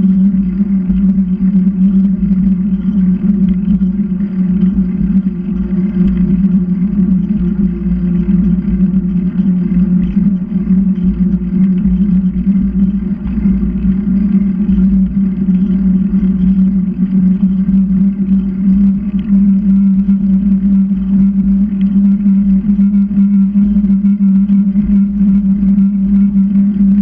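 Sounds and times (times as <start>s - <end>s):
loud low hum: 0.0s - 27.0s.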